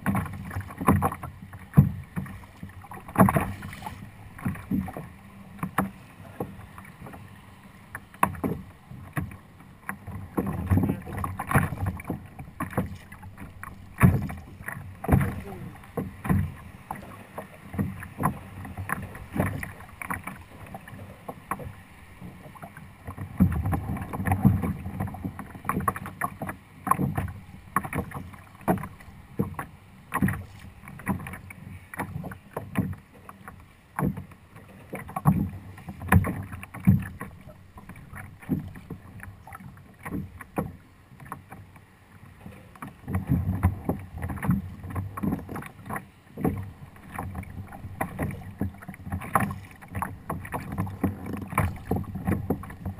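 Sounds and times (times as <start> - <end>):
water slapping against kayak hull: 0.0 - 52.9.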